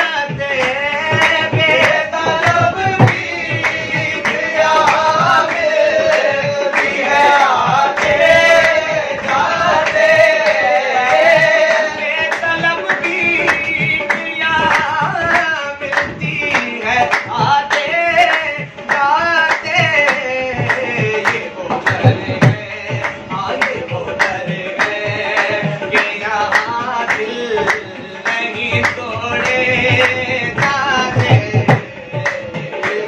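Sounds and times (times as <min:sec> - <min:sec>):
dholak drum: 0:00.0 - 0:33.0
harmonium: 0:00.0 - 0:33.0
men singing lead and chorus: 0:00.0 - 0:33.0
rhythmic hand clapping: 0:00.0 - 0:33.0.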